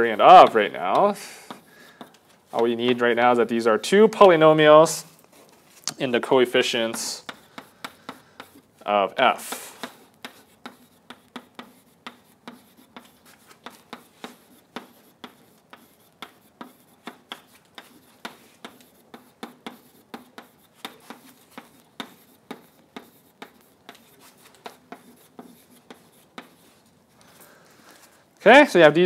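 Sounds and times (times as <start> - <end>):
chalk tapping and scraping on board: 0.0 - 28.1.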